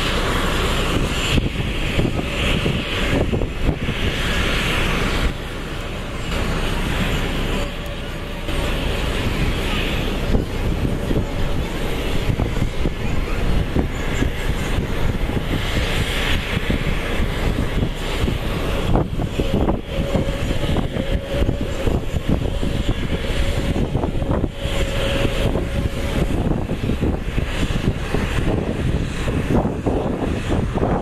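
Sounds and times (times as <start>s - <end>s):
faint jet whine: 0.0s - 31.0s
jet engines rumbling at take-off: 0.0s - 31.0s
wind buffeting microphone: 0.0s - 31.0s.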